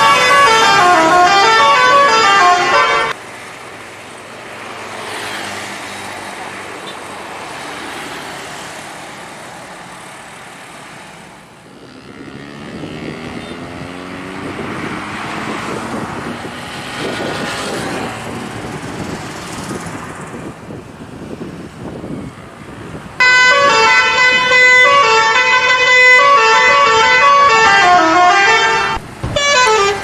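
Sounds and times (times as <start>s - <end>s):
heavy vehicle engine passing: 0.0s - 30.0s
steady road noise: 0.0s - 30.0s.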